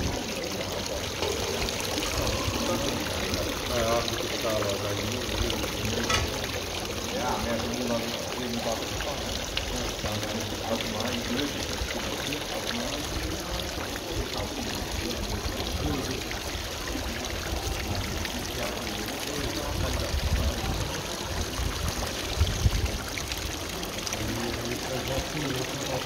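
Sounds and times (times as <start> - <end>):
fountain water splashing into basin: 0.0 - 26.0.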